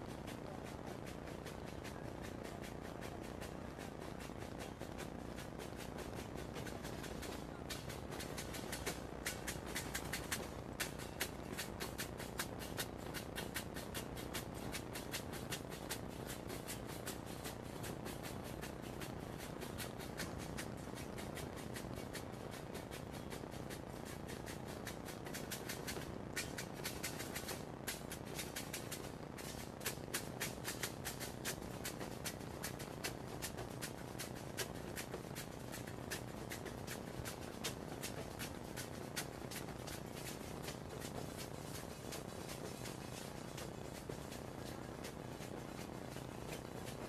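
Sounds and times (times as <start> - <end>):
rapid rhythmic percussion: 0.0 - 47.0.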